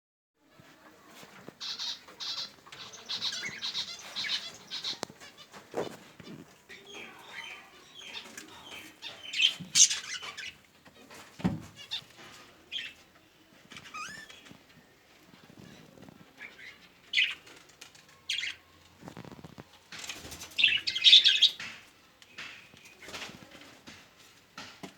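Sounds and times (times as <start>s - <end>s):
pet birds chirping: 1.5s - 10.7s, 11.8s - 23.1s.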